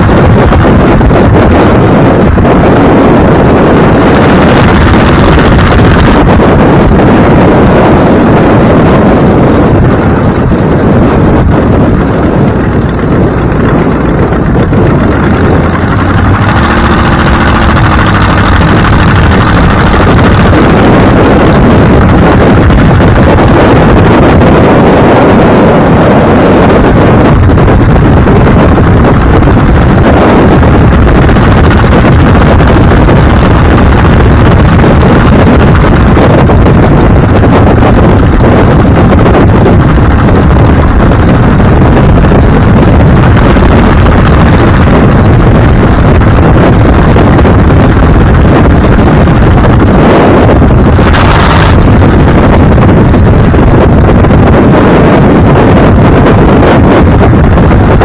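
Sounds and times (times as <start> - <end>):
vehicle road and wind noise: 0.0 - 58.0
wind buffeting microphone: 0.0 - 58.0.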